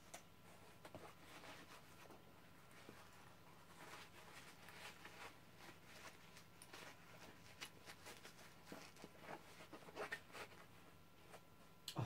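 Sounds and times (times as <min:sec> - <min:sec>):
cloth rustling and scuffing: 0:00.4 - 0:11.6.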